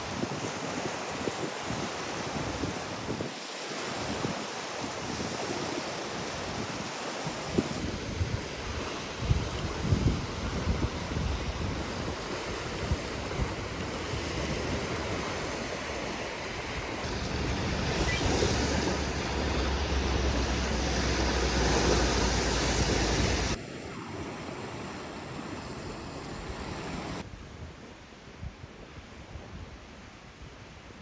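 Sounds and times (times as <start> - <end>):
wind buffeting microphone: 0.0 - 30.7.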